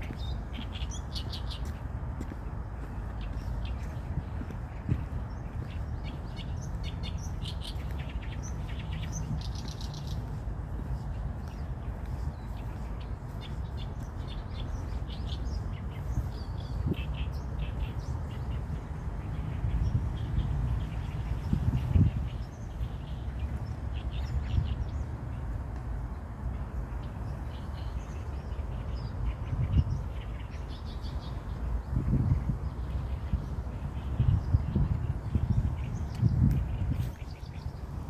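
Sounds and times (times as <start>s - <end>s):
wild birds chirping: 0.0s - 38.0s.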